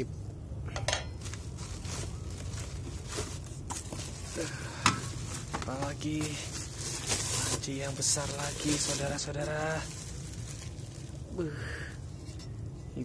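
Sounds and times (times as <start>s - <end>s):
steady low hum: 0.0s - 13.0s
plastic and cardboard rustling: 1.2s - 12.7s.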